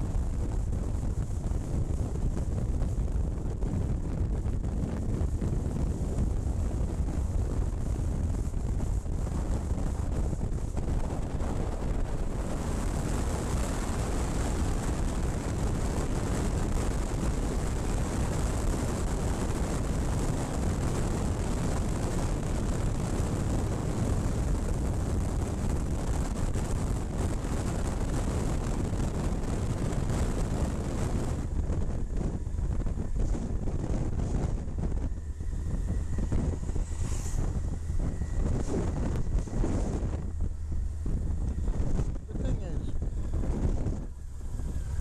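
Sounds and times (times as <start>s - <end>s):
motorcycle engine: 0.0s - 45.0s
road noise: 0.0s - 45.0s
wind rushing on microphone: 0.0s - 45.0s.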